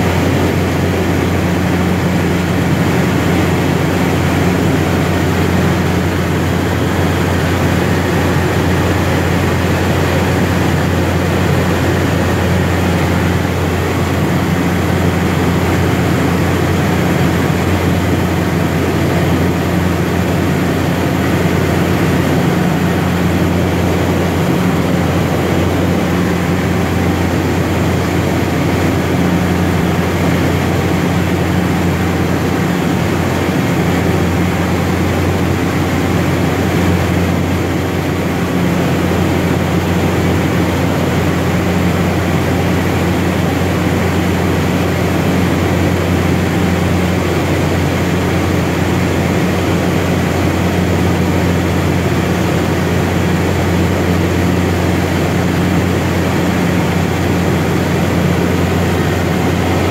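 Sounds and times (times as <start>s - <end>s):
turboprop engine drone in cockpit: 0.0s - 59.9s.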